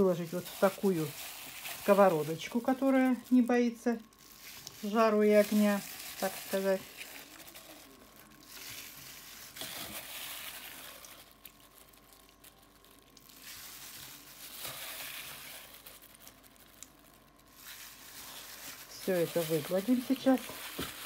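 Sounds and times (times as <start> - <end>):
plastic glove crinkling: 0.0 - 21.0.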